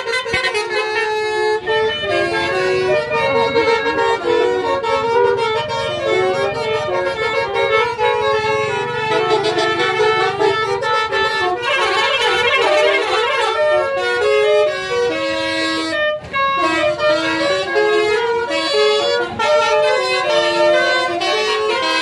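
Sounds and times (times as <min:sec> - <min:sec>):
musical bus horn melody: 0:00.0 - 0:22.0.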